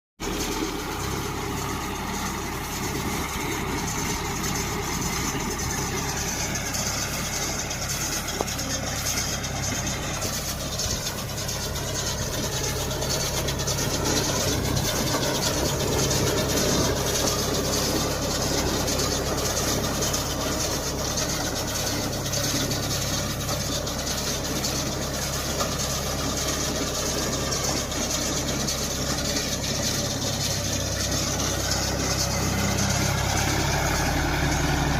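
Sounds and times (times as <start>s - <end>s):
baler machinery noise: 0.2s - 34.9s
tractor engine running: 0.2s - 34.9s.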